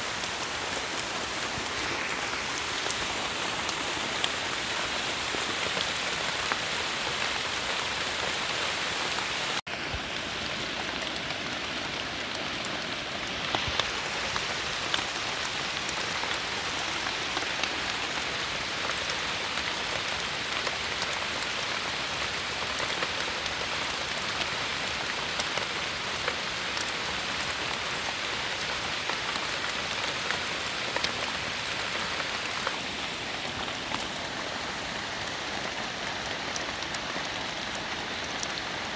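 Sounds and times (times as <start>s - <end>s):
drops ticking on leaves: 0.0s - 38.9s
rain on leaves: 0.0s - 38.9s.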